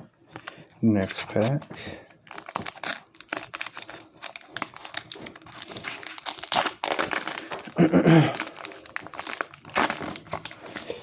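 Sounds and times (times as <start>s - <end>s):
foil wrapper tearing and crinkling: 1.0s - 11.0s.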